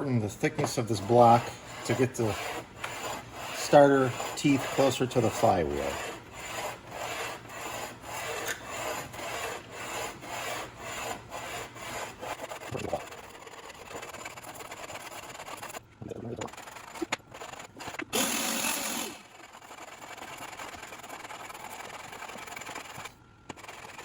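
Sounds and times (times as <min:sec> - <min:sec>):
file rasping on block: 0:00.4 - 0:15.8, 0:16.4 - 0:24.0.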